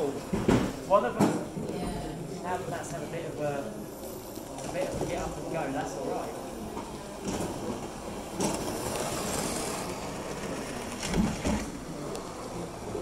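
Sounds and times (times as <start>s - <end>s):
model train rolling on rails: 2.3s - 13.0s.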